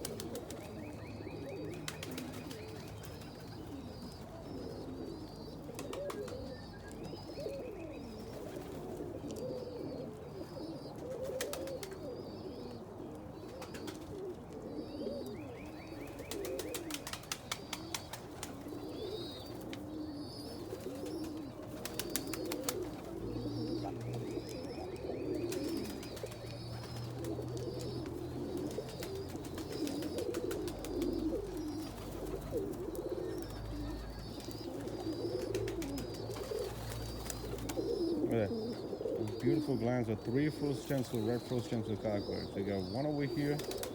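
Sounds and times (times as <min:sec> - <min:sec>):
pigeons cooing: 0:00.0 - 0:43.9
small birds chirping: 0:00.0 - 0:43.9.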